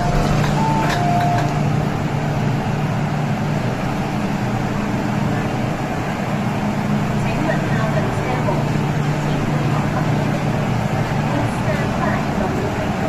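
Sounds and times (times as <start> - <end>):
low train hum: 0.0 - 13.0.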